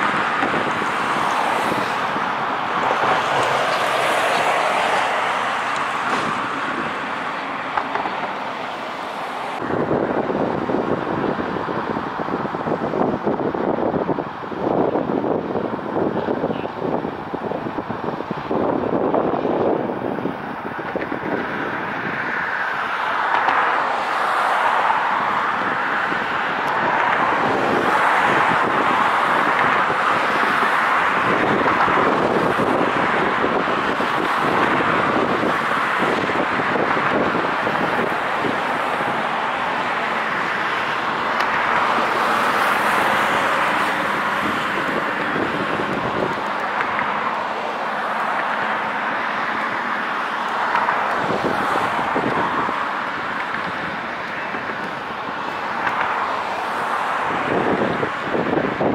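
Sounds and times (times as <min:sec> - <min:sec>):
road traffic rushing: 0:00.0 - 0:58.9.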